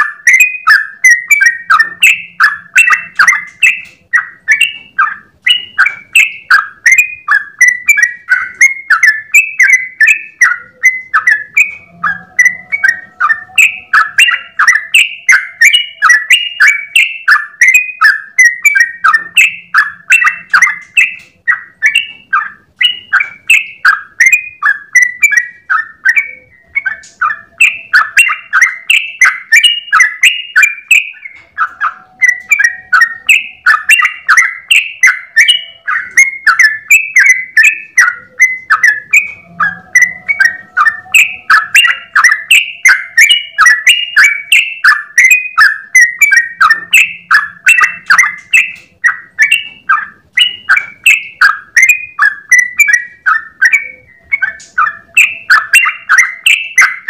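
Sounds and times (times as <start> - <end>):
bird singing rapid notes: 0.0 - 57.0.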